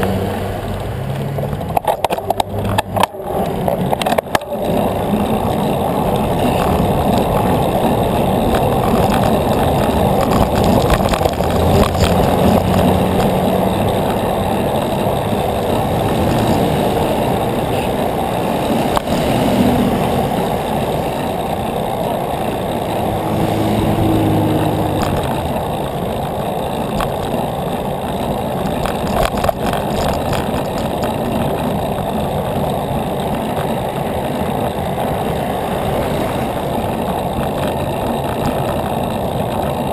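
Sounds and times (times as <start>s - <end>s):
vehicle engines in traffic: 0.0s - 39.9s
wind and road rush: 0.0s - 39.9s.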